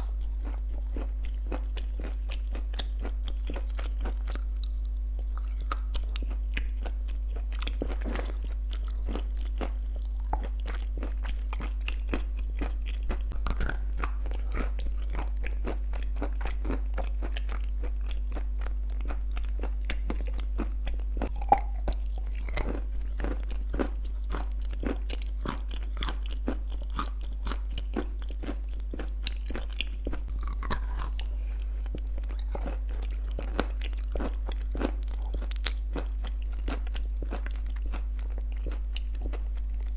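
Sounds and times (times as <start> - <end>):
crunching and chewing: 0.0 - 39.9
steady low hum: 0.0 - 39.9.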